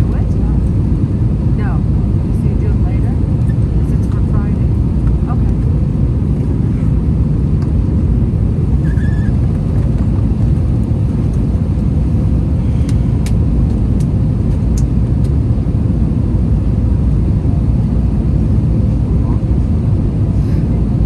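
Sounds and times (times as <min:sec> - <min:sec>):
airplane cabin roar: 0:00.0 - 0:21.0.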